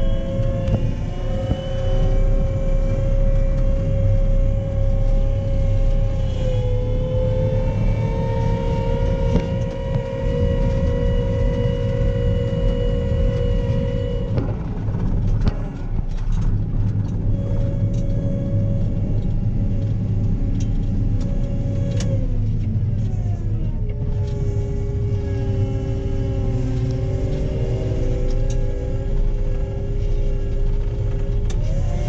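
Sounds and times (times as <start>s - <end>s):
diesel engine rumble: 0.0s - 32.0s
steady machine whine: 0.0s - 32.0s.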